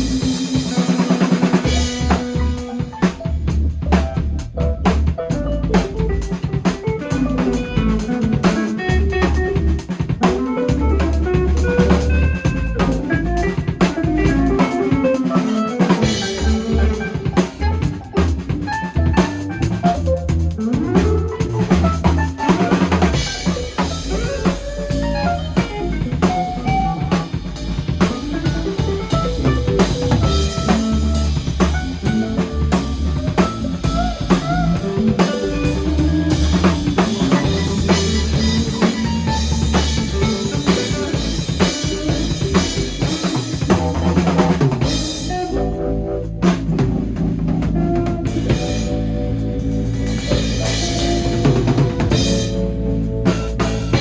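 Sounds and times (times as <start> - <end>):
drum kit playing: 0.0 - 54.0.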